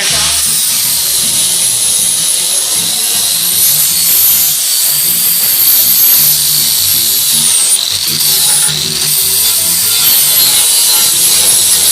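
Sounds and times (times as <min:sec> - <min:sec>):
electric power tool whining: 0:00.0 - 0:11.9.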